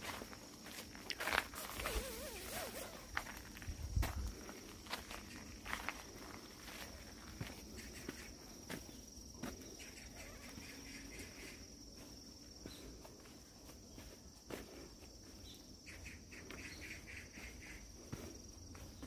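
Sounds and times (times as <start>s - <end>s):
footsteps on dirt path: 0.0s - 19.0s
insect chirps: 0.0s - 19.0s
insects trilling: 0.0s - 19.0s.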